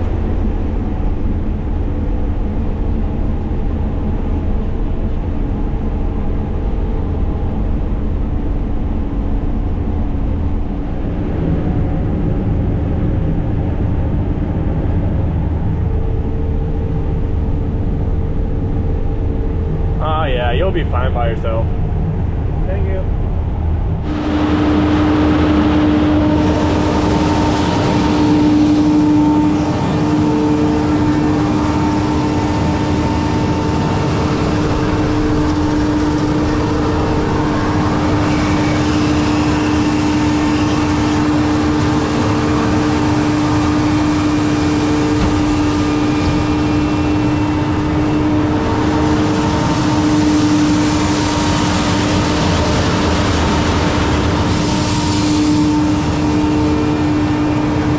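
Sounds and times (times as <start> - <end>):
constant humming tone: 0.0 - 57.9
harvester engine droning: 10.5 - 57.9.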